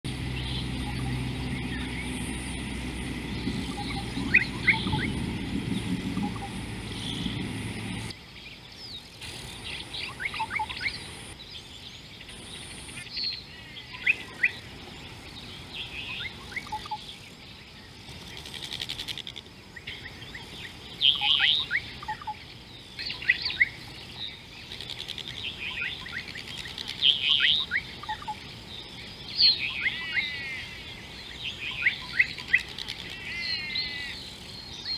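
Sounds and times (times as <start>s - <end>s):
birds chirping: 0.1s - 34.9s
low steady noise: 0.1s - 34.9s.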